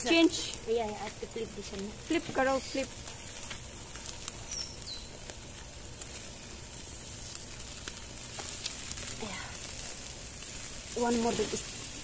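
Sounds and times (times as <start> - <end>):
chicken sizzling on grill: 0.0 - 12.0
wood fire crackling and popping: 0.0 - 12.0.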